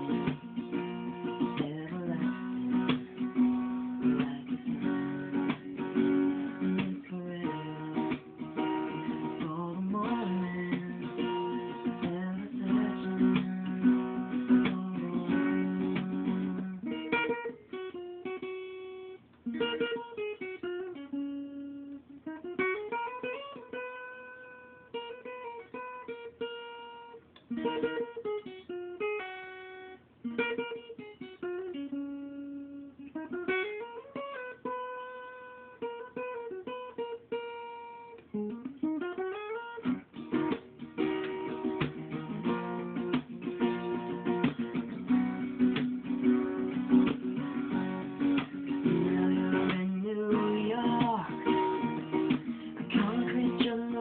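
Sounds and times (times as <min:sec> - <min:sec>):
acoustic guitar: 0:00.0 - 0:54.0.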